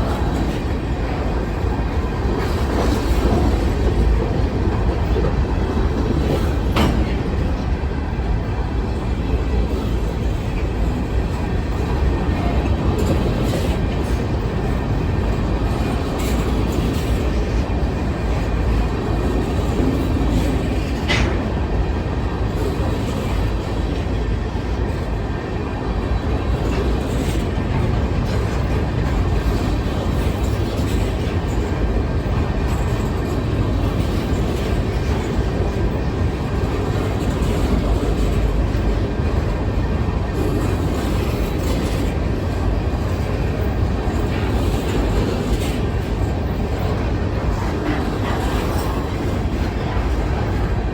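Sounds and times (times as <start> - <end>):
freight train wheels rumbling: 0.0 - 50.9
wheels clacking over rail joints: 0.0 - 50.9.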